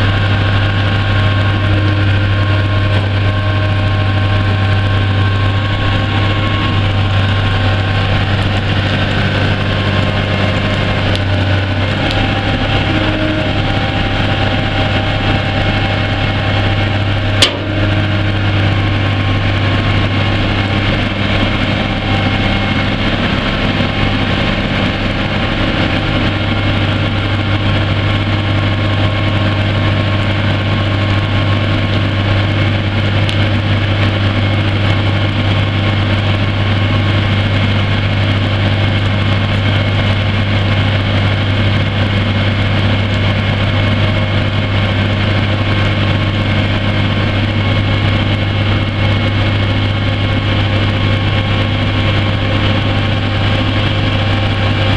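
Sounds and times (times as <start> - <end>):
diesel truck engine idling: 0.0 - 54.9.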